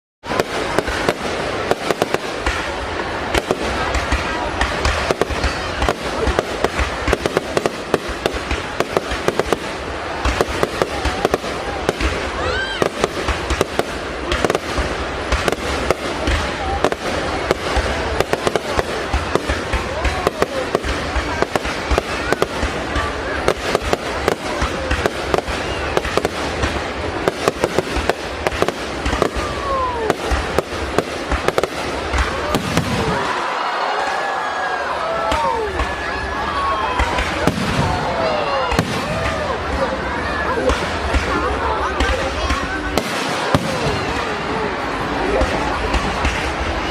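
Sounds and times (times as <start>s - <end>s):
fireworks cracks and bangs: 0.2s - 46.9s
fireworks crackling hiss: 0.3s - 46.9s.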